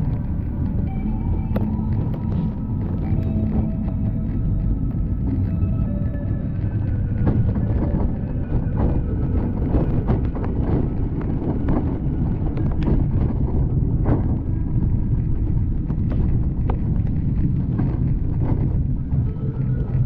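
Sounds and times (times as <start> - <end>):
tyre noise on wet road: 0.0 - 20.0
wind buffeting microphone: 0.0 - 20.0.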